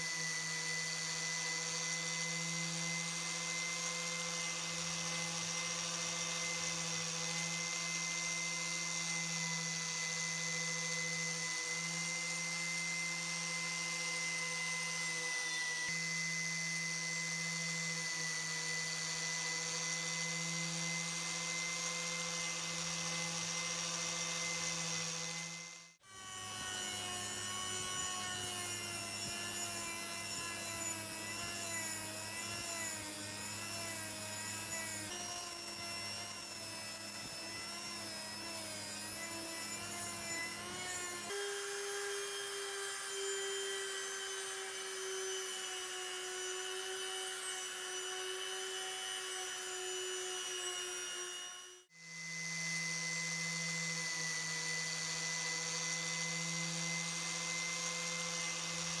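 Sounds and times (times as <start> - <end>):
power tool motor whining: 0.0 - 59.0.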